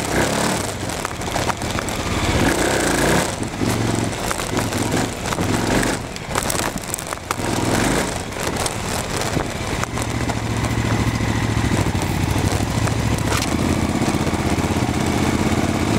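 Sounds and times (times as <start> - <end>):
motorcycle engine running: 0.0 - 15.9
tyres crackling on dirt: 0.0 - 15.9.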